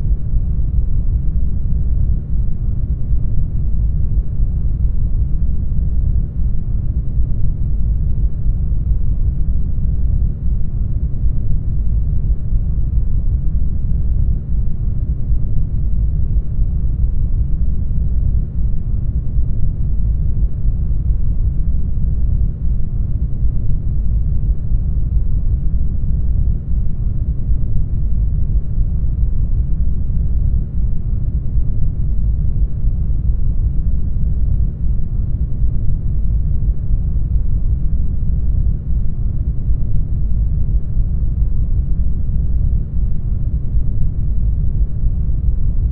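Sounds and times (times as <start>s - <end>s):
brown noise rumble: 0.0s - 45.9s.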